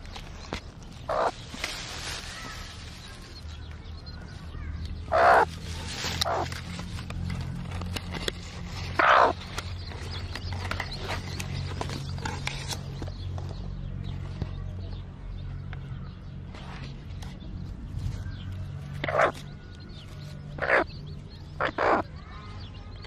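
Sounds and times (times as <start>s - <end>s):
harsh bird calls: 0.0s - 23.0s.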